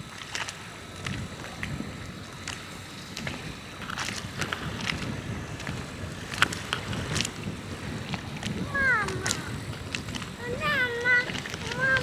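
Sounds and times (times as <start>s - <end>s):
sea waves washing gently: 0.0s - 12.0s
wind buffeting microphone: 0.0s - 12.0s.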